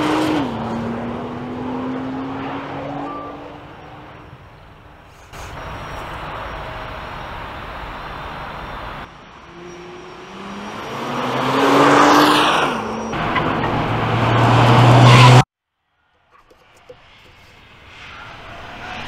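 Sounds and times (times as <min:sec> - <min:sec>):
car engine accelerating: 0:00.0 - 0:15.4.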